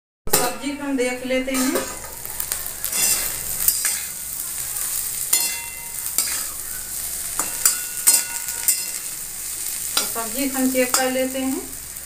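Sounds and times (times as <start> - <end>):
metal spatula scraping pan: 0.3 - 11.4
vegetables sizzling: 0.3 - 12.0.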